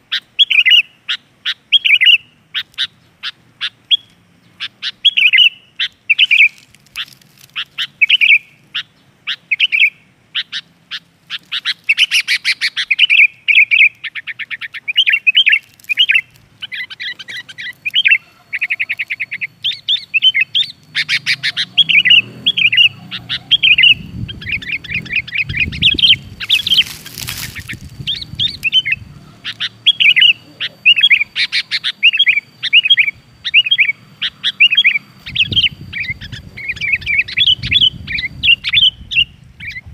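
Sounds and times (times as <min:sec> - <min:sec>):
bird singing whistled phrases: 0:00.4 - 0:04.1, 0:04.8 - 0:06.6, 0:07.8 - 0:10.6, 0:11.5 - 0:39.9.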